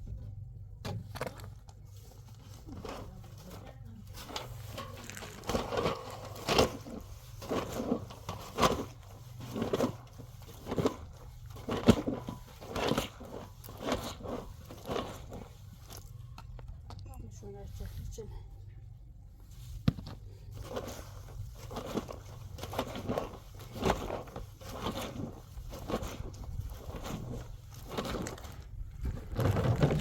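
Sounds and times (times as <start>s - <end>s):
crunching crinkling noises: 0.0s - 30.0s
steady low hum: 0.0s - 30.0s.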